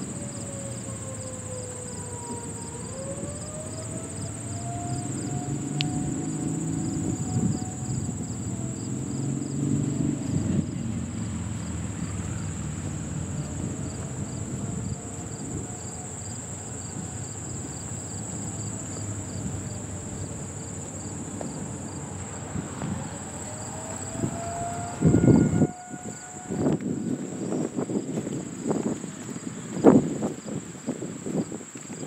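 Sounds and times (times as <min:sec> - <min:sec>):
distant warning siren: 0:00.0 - 0:31.2
insects chirring: 0:00.0 - 0:32.0.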